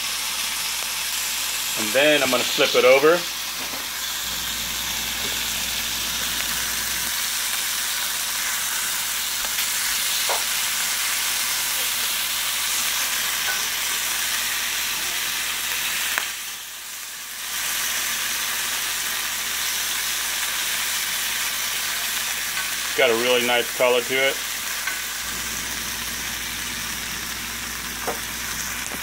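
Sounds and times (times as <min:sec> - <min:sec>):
fish fillets sizzling in a pan: 0:00.0 - 0:29.0.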